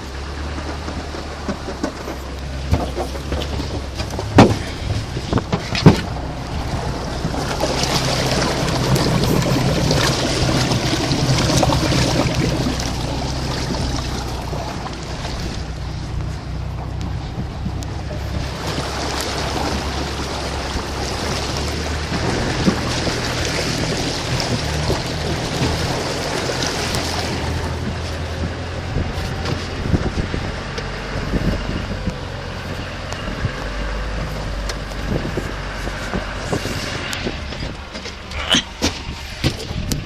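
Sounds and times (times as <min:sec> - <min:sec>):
vehicle engine at low revs: 0:00.0 - 0:40.0
water rushing and splashing: 0:00.0 - 0:40.0.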